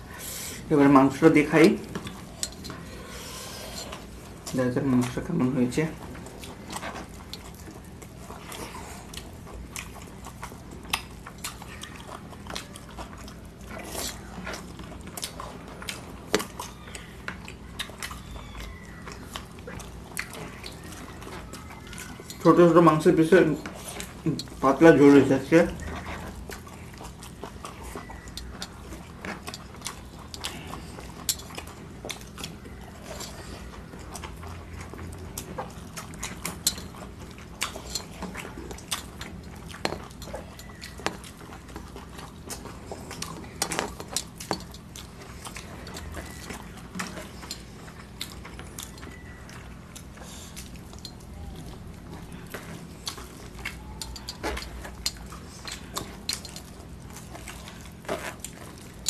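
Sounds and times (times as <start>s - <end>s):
low steady hum: 0.0s - 59.0s
people chewing: 0.0s - 59.0s.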